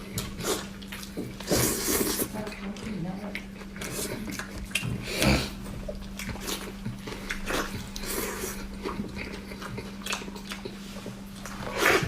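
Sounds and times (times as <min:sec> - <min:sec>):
steady low hum: 0:00.0 - 0:12.0
wet chewing and lip smacks: 0:00.0 - 0:12.0.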